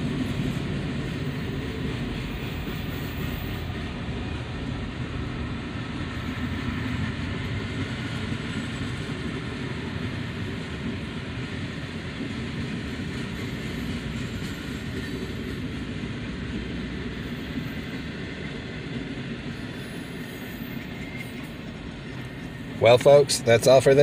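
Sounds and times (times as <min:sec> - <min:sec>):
steel wheels running on rail: 0:00.0 - 0:24.0.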